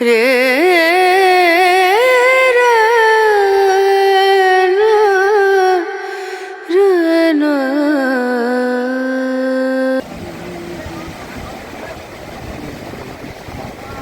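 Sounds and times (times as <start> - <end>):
solo voice singing: 0.0 - 11.5.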